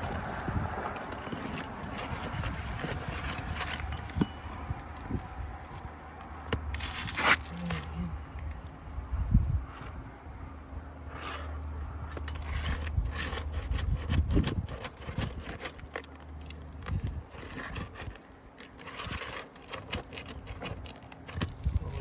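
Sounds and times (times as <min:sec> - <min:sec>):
roof shingles being pried up: 0:00.0 - 0:08.5, 0:11.1 - 0:21.8.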